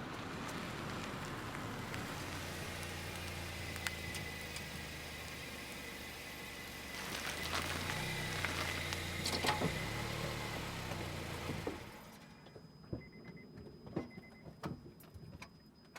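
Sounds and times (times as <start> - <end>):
car engine running at low revs: 0.0 - 13.1.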